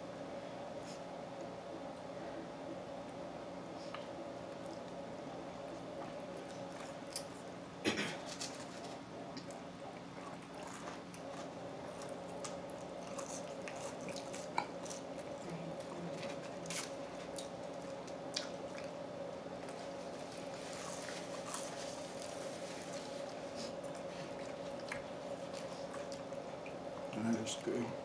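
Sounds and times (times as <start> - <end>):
people chewing wetly: 3.8 - 7.5, 8.2 - 27.6.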